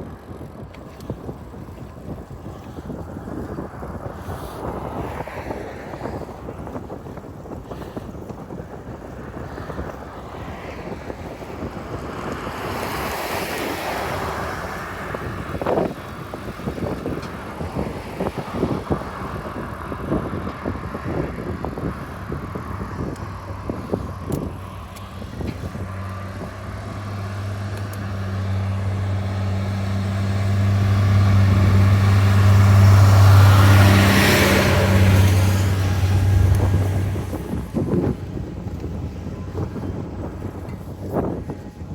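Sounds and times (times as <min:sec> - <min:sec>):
vehicle engine hum: 0:00.0 - 0:41.9
wind buffeting microphone: 0:00.0 - 0:41.9.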